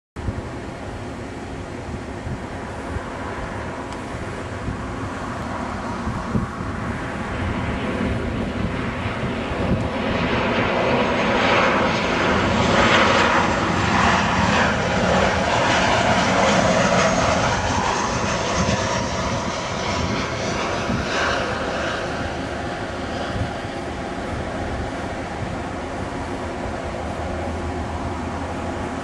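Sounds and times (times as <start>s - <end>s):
jet airliner passing: 0.2s - 29.0s.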